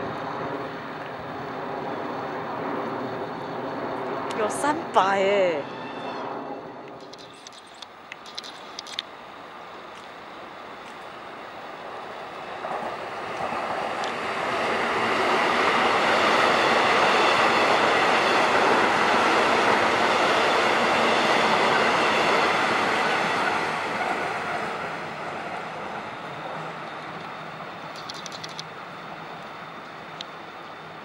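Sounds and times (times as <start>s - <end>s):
electric train passing on track: 0.0s - 31.0s.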